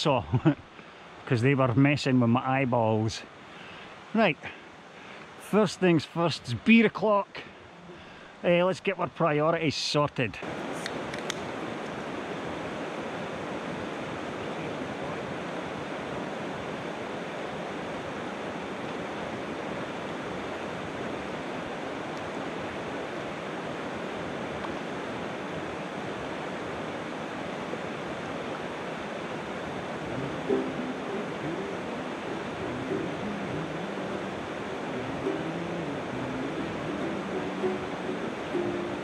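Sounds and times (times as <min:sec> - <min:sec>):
river water rushing: 0:00.7 - 0:08.6, 0:10.4 - 0:39.0.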